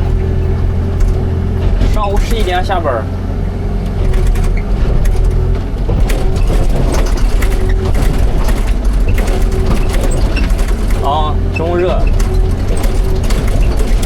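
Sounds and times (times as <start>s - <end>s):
excavator diesel engine rumble: 0.0s - 14.0s
metallic clanks and rattles: 0.0s - 14.0s.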